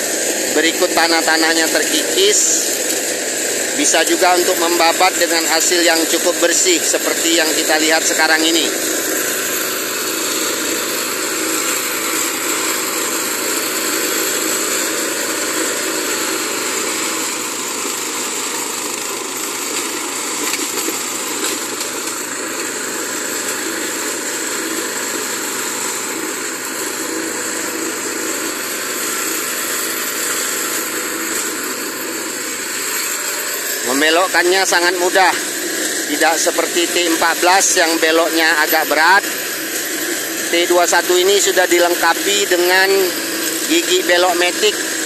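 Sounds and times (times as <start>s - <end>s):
brush cutter engine running: 0.0s - 45.0s.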